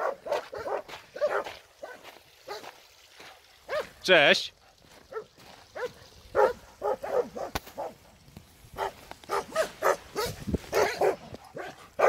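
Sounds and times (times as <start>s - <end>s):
dogs barking: 0.0s - 2.8s, 3.6s - 4.0s, 4.7s - 12.0s.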